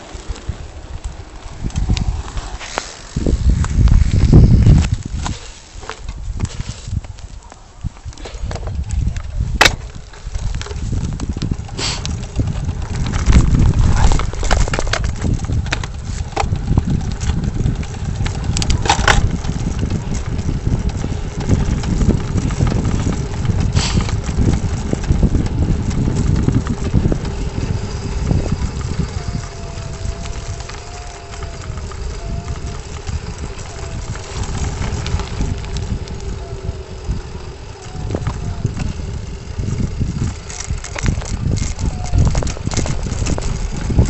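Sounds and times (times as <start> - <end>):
bike clattering over stones: 0.0 - 44.0
bike frame rattling: 0.0 - 44.0
bike tyres rumbling on dirt: 0.0 - 44.0.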